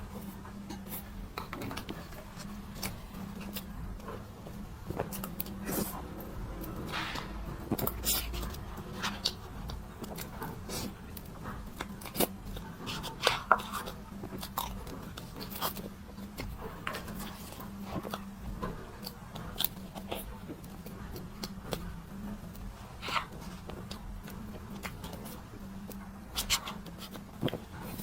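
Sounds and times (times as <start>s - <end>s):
faint steady hum: 0.0s - 28.0s
person chewing with wet clicks: 0.0s - 28.0s.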